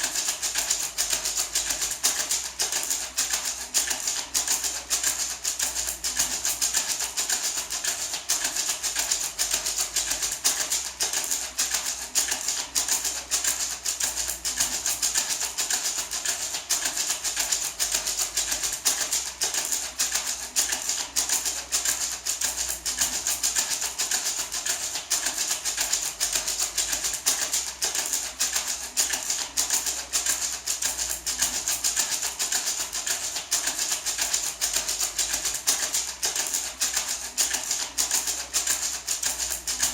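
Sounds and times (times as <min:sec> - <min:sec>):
gourd maraca rattling: 0:00.0 - 0:39.9.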